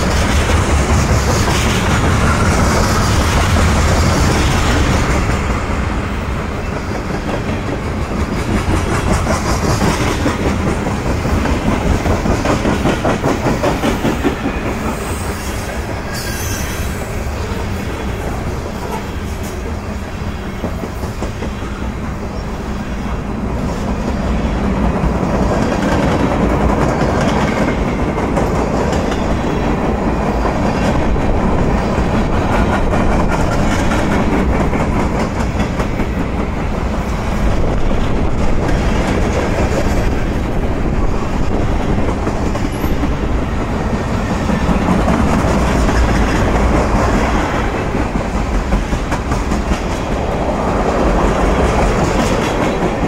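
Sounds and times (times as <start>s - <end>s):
clickety-clack over rails: 0.0s - 53.0s
train wheels rumbling: 0.0s - 53.0s.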